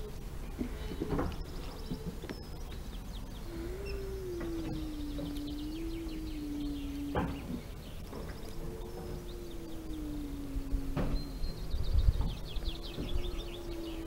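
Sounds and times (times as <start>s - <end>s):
low outdoor rumble: 0.0s - 14.0s
small birds chirping: 0.0s - 14.0s
steady low hum: 0.0s - 14.0s.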